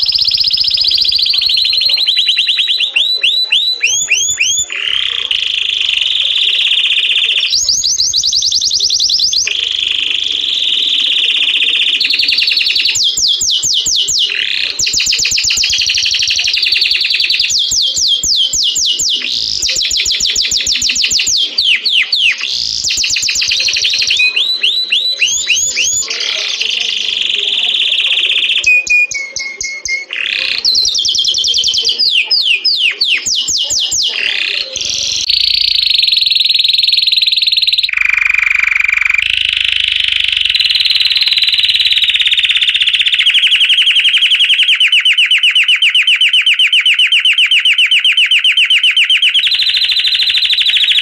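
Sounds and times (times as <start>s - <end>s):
canary singing trills: 0.0s - 51.0s.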